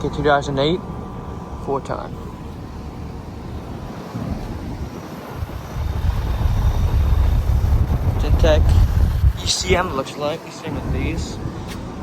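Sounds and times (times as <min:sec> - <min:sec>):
heat pump fan rushing: 0:00.0 - 0:12.0
wind buffeting microphone: 0:00.0 - 0:12.0.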